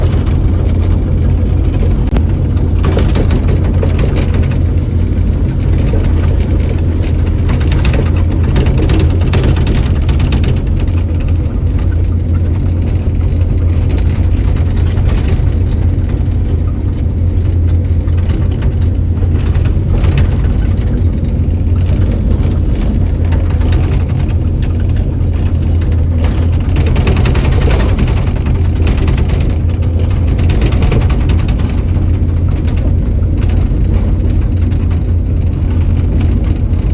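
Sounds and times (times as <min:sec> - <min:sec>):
diesel engine humming: 0:00.0 - 0:36.9.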